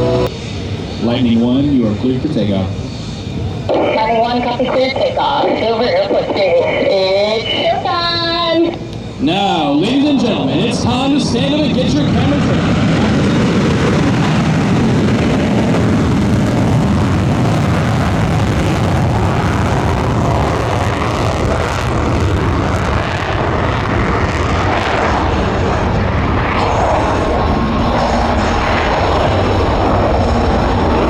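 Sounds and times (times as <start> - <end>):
airplane engine rumble on takeoff: 0.0 - 31.0.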